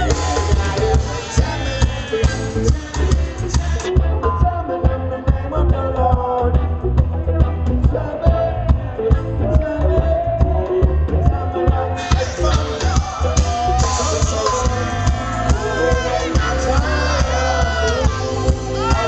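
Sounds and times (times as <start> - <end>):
live reggae band playing: 0.0 - 19.0
person singing lead vocal: 0.0 - 19.0.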